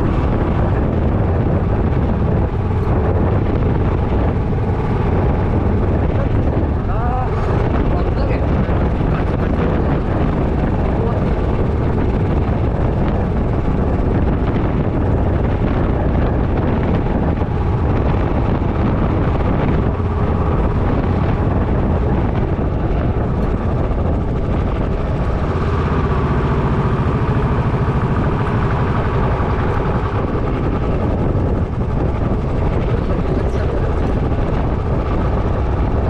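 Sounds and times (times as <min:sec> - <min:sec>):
motorcycle engine humming: 0:00.0 - 0:36.0
rushing air noise: 0:00.0 - 0:36.0.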